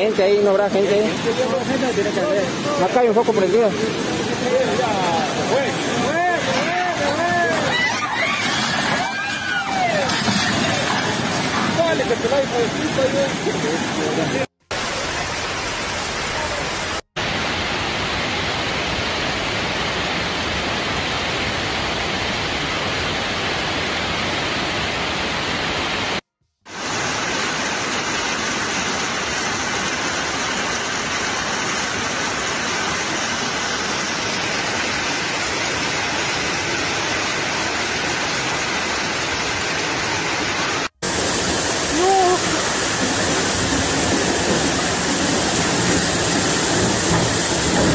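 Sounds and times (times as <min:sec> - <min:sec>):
floodwater rushing: 0:00.0 - 0:47.9
rain: 0:00.0 - 0:47.9.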